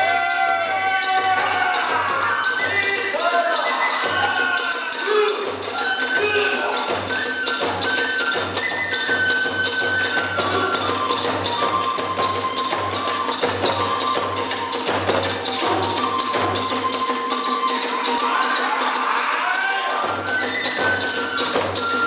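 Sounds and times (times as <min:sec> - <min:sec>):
bamboo flute melody: 0:00.0 - 0:22.0.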